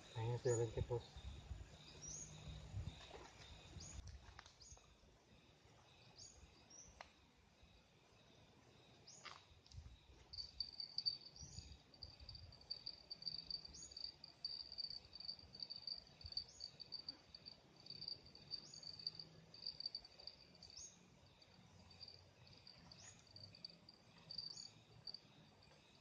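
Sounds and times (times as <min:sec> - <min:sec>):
cricket pulsing trill: 0:00.0 - 0:04.0, 0:05.3 - 0:26.0.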